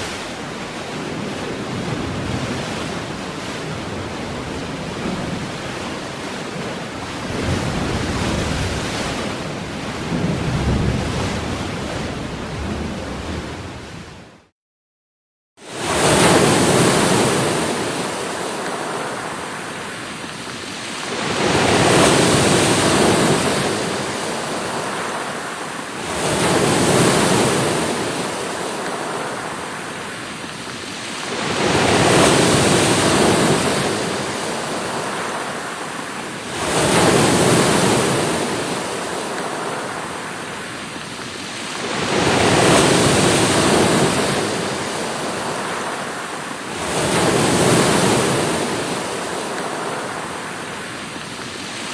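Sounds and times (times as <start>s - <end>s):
sea waves breaking: 0.0s - 14.5s, 15.8s - 51.9s.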